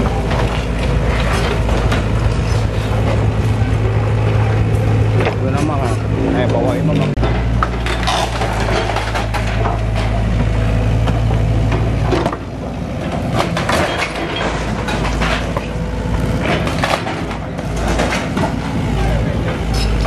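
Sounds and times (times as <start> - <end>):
excavator diesel engine drone: 0.0 - 20.0.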